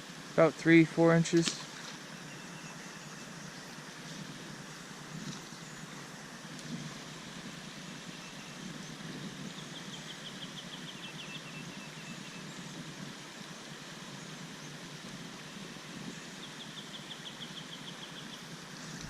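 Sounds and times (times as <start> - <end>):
rushing outdoor background noise: 0.0 - 19.0.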